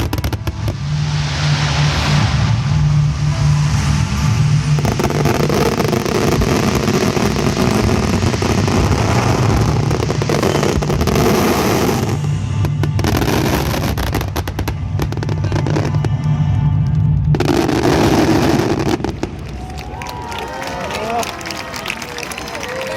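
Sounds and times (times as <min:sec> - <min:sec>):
fireworks bursts and booms: 0:00.0 - 0:19.6
fireworks crackling: 0:00.0 - 0:22.9
music: 0:00.0 - 0:22.9.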